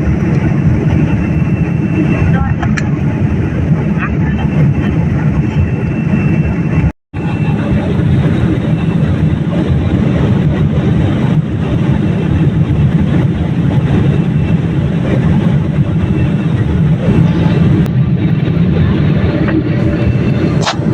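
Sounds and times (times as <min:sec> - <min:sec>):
airliner cabin engine rumble: 0:00.0 - 0:20.9.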